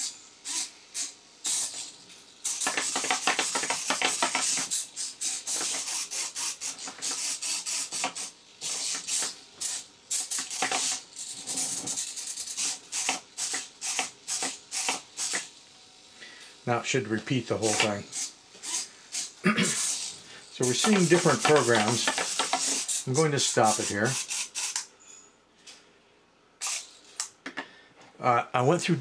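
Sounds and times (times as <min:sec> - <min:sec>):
servos buzzing and chattering: 0:00.0 - 0:15.6, 0:16.7 - 0:24.9.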